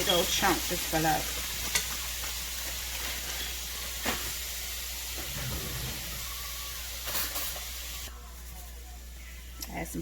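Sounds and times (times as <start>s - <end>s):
potatoes sizzling in oil: 0.0s - 9.1s.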